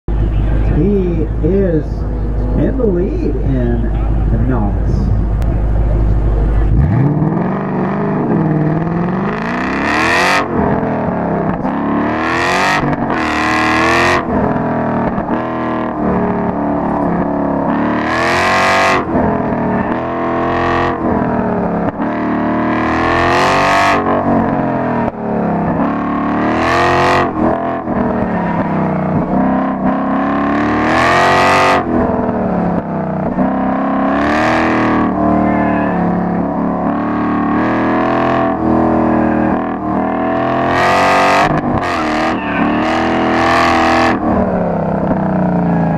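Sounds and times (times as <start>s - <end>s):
car engine revving: 0.1s - 45.9s.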